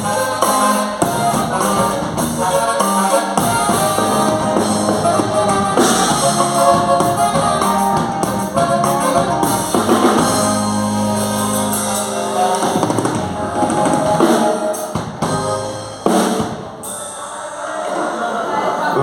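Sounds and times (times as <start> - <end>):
band playing instrumental: 0.0 - 17.9.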